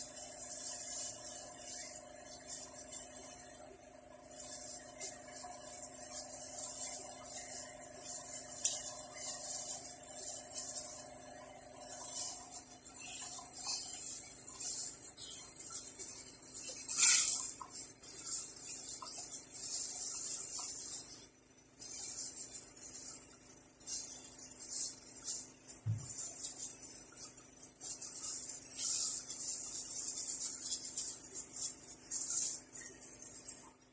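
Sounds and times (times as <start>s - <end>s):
plastic bag crinkling: 0.0s - 3.5s, 4.2s - 21.2s, 21.8s - 33.6s.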